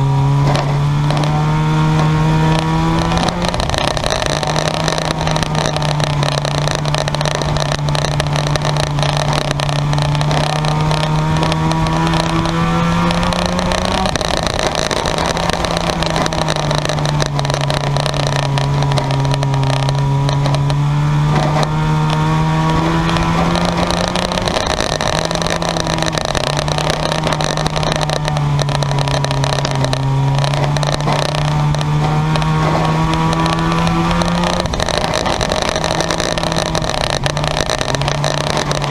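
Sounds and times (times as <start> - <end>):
race car engines running hard: 0.0 - 38.9.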